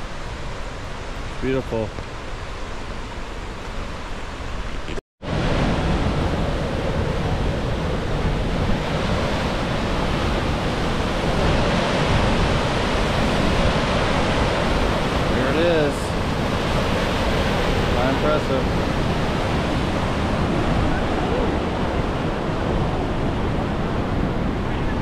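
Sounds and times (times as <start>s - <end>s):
rushing waterfall: 0.0s - 25.0s.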